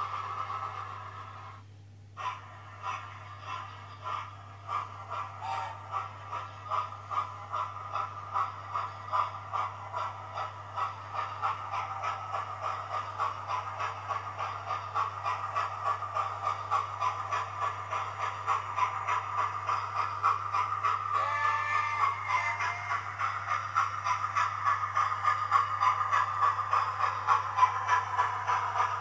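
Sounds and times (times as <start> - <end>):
model steam locomotive chuffs: 0.0 - 29.0.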